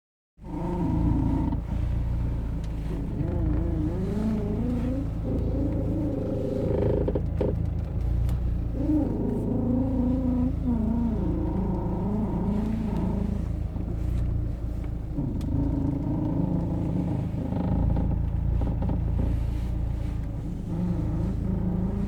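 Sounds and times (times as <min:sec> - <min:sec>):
car engine running: 0:00.4 - 0:22.0
steering creaking: 0:00.4 - 0:22.0.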